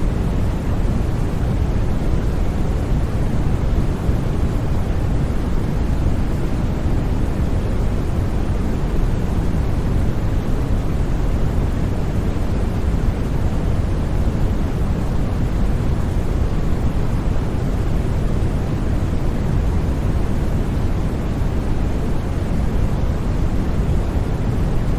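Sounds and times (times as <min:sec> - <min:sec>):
deep rumbling steady noise: 0:00.0 - 0:24.9.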